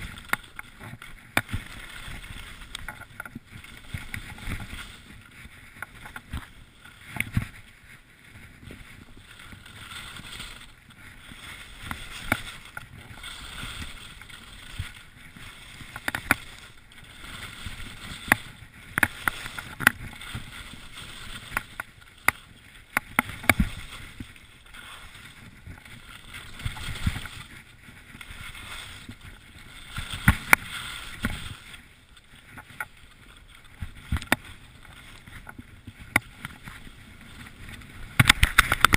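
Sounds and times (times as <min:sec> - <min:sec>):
skis knocking on bumps: 0:00.0 - 0:38.9
skis scraping over snow: 0:00.0 - 0:38.9.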